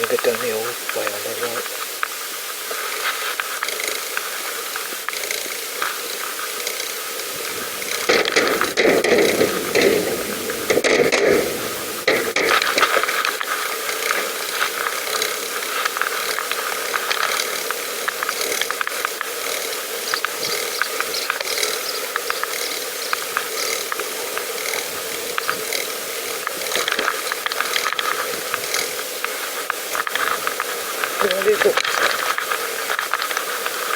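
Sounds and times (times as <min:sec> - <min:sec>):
bicycle freewheel ticking: 0:00.0 - 0:33.9.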